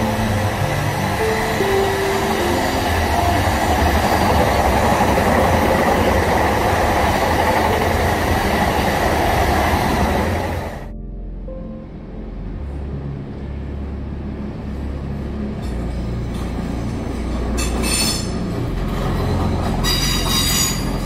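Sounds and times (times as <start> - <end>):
train wheels rumbling and rattling: 0.0 - 10.8, 14.8 - 21.0.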